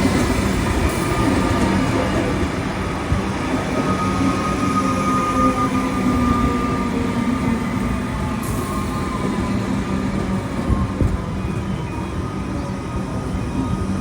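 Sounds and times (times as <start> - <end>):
electric train rumbling: 0.0 - 14.0
train high whine: 0.0 - 14.0.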